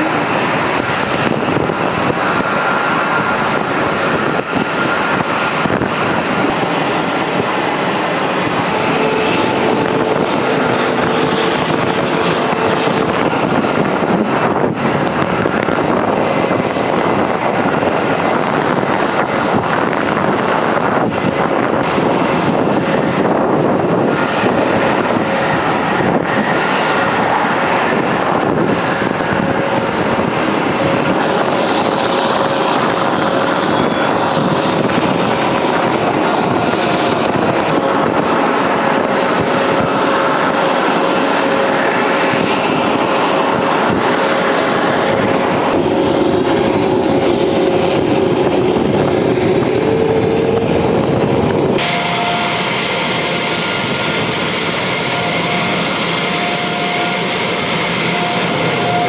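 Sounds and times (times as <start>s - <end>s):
jet engine whine: 0.0s - 59.0s
jet engines running: 0.0s - 59.0s.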